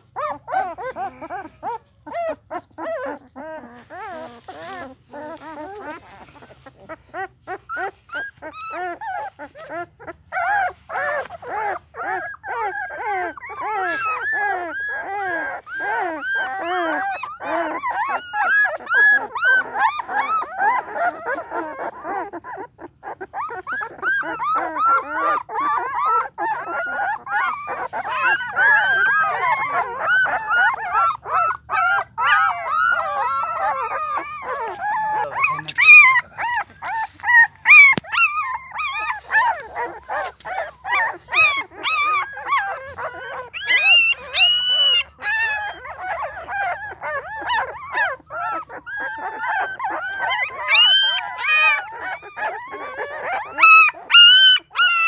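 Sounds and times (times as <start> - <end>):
puppies whimpering and whining: 0.0 - 55.0
puppies yelping: 0.0 - 55.0.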